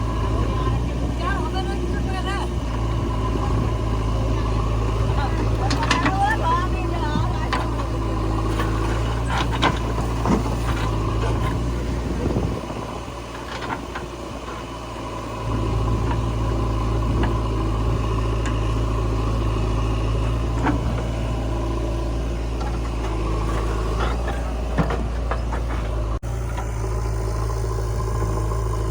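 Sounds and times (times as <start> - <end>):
heavy diesel engine humming: 0.0 - 28.9.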